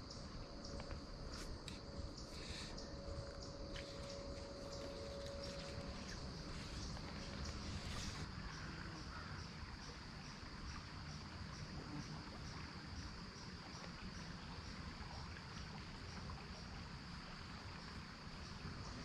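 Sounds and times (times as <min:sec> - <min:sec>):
small stream flowing: 0:00.0 - 0:19.0.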